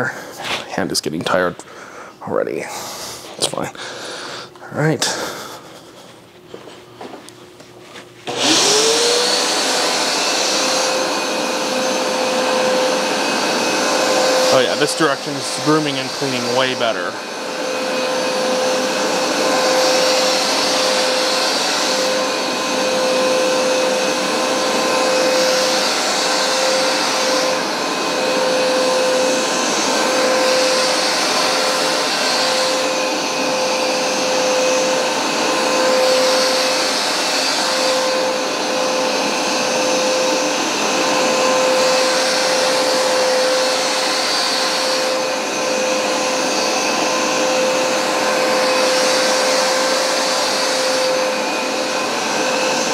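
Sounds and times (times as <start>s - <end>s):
carpet cleaner running: 0.0s - 52.9s.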